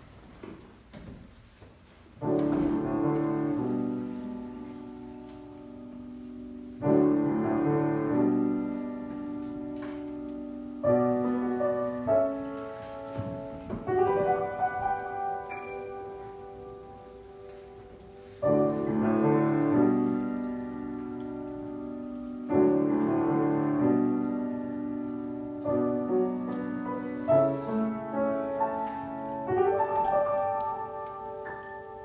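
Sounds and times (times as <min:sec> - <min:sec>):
slow solo piano chords: 0:02.2 - 0:32.0.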